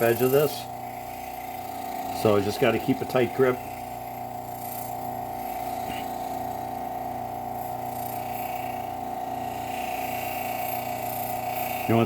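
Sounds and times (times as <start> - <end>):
bench grinder humming: 0.0 - 12.0
knife blade buffed on wheel: 0.0 - 12.0.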